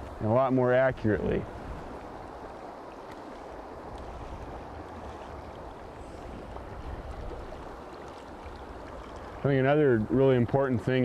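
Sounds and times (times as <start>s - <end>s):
flowing stream: 0.0s - 11.0s.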